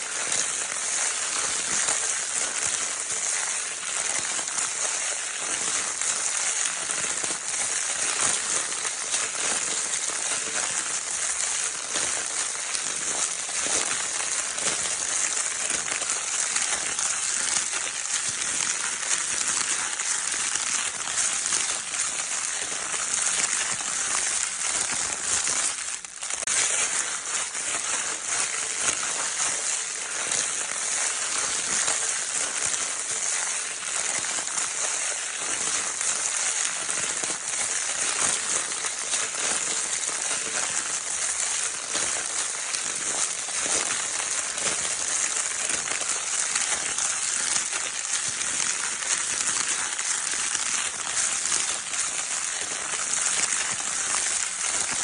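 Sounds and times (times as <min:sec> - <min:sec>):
crinkle paper toy crinkling: 0:00.0 - 0:55.0.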